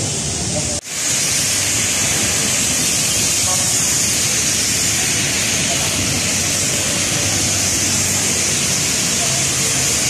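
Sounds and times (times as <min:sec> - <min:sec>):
heavy rain falling: 0:00.0 - 0:10.0
vehicles passing on wet road: 0:00.0 - 0:10.0.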